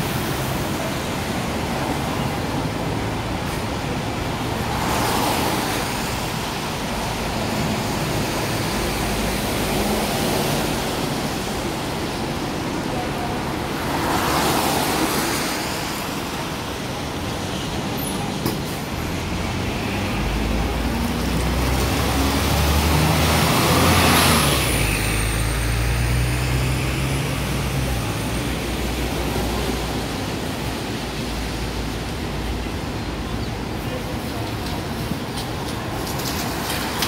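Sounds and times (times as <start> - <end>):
traffic noise: 0.0 - 37.0
tyres hissing on wet road: 0.0 - 37.0.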